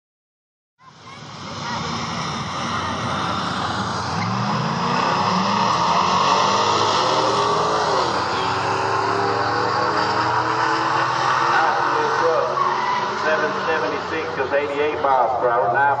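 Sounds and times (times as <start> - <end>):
truck engine running: 0.8 - 16.0.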